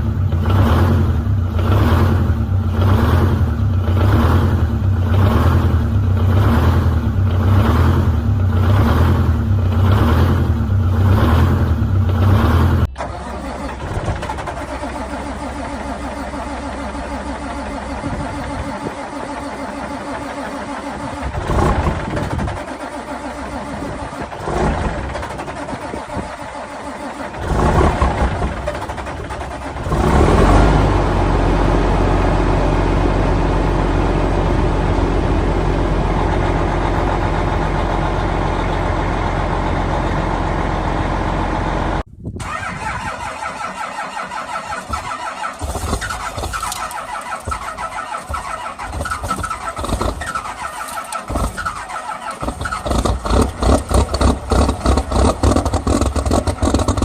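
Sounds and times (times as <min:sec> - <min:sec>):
diesel engine cranking and starting: 0:00.0 - 0:57.0
diesel engine idling with clatter: 0:00.0 - 0:57.0.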